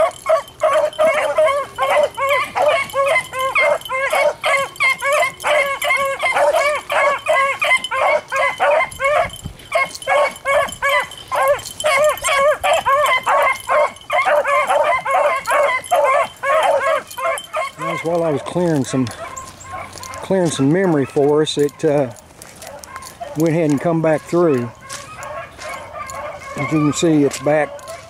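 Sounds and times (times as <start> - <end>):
dogs baying and yelping: 0.0 - 28.0.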